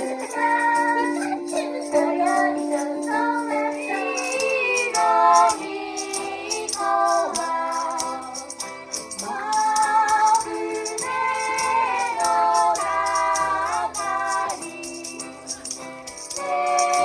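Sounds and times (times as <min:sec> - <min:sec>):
person singing: 0:00.0 - 0:17.0
shaken rattle beat: 0:00.0 - 0:17.0
ukulele: 0:00.0 - 0:17.0.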